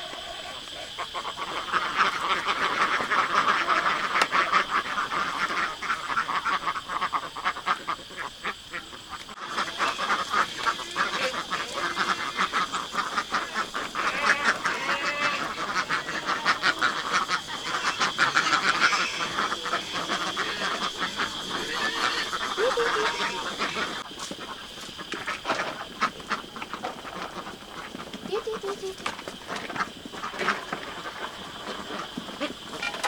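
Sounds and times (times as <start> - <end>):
flock of ducks quacking: 0.0 - 33.0.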